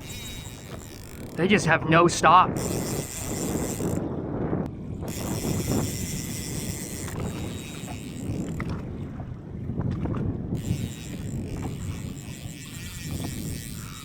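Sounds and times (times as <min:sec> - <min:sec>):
water moving around a boat: 0:00.0 - 0:14.0
wind buffeting the microphone: 0:00.0 - 0:14.0.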